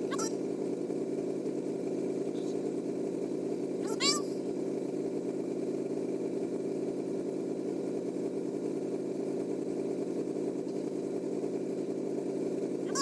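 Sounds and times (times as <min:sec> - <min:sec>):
electric cooling fan running: 0:00.0 - 0:13.0
truck engine idling: 0:00.0 - 0:13.0.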